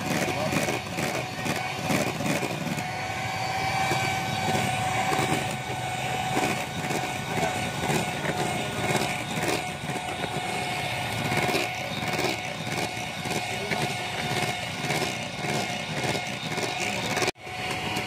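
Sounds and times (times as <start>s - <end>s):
electric mixer whining: 0.0s - 18.0s.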